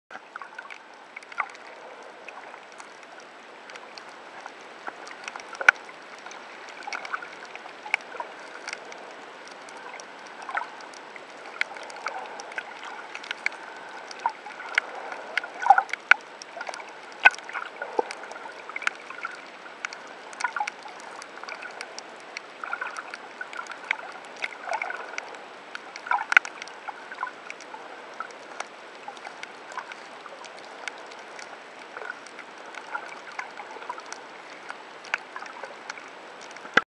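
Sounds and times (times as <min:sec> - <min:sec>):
sharp clicks and crackles: 0:00.1 - 0:36.8.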